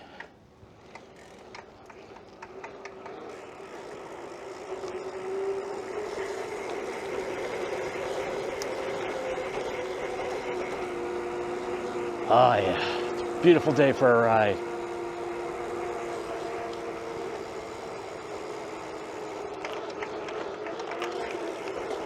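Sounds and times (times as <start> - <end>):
bike tyre noise: 0.0 - 22.0.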